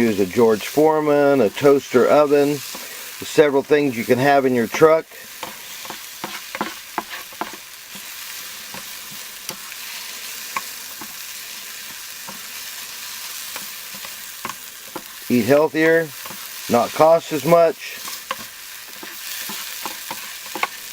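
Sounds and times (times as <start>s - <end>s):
eggs sizzling in a skillet: 0.0s - 20.9s.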